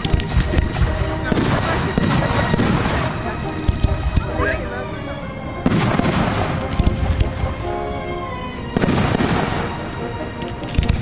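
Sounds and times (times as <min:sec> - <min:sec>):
fireworks booming: 0:00.0 - 0:04.6, 0:05.6 - 0:07.8, 0:08.6 - 0:11.0
fireworks rumble and crackle: 0:00.0 - 0:11.0.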